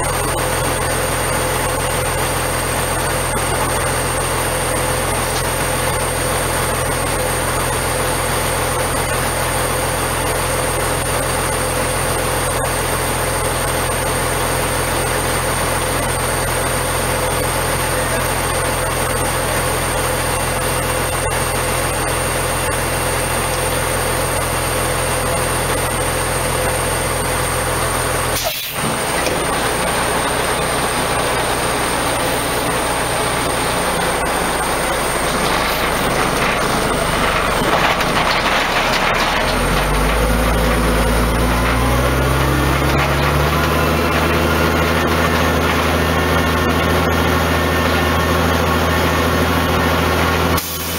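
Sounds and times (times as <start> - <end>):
diesel truck engine: 0.0 - 50.9.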